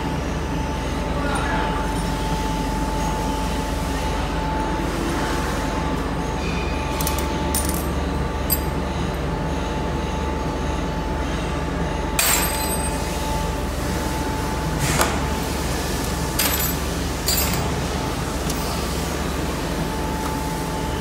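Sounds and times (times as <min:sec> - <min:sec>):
machinery hum with high tone: 0:00.0 - 0:21.0.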